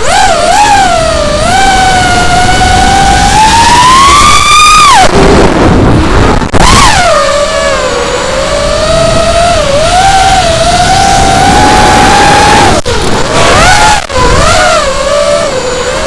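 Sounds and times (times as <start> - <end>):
drone motors whining: 0.0 - 16.0
rush of noise: 0.0 - 16.0.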